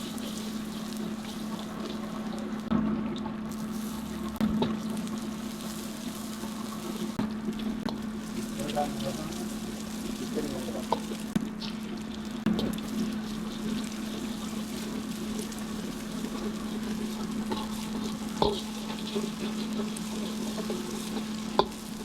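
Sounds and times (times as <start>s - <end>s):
food sizzling in pan: 0.0s - 22.0s.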